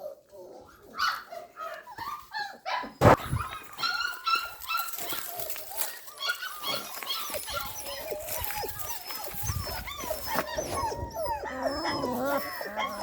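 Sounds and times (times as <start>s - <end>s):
puppies whimpering and yipping: 0.0s - 13.0s.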